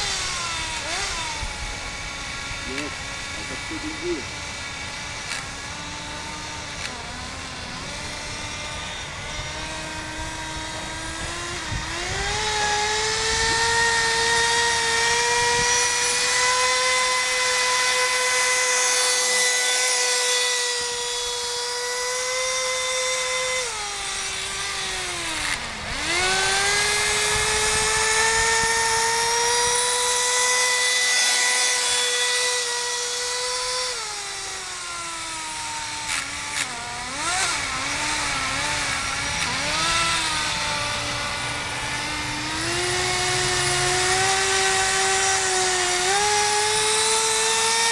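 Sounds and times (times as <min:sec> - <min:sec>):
small nitro engine revving: 0:00.0 - 0:47.9.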